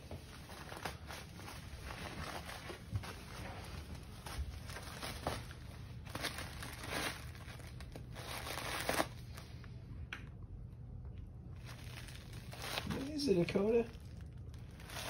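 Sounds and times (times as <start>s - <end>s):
wrapping paper rustling: 0.0s - 9.7s, 11.5s - 15.0s
steady low hum: 0.0s - 15.0s.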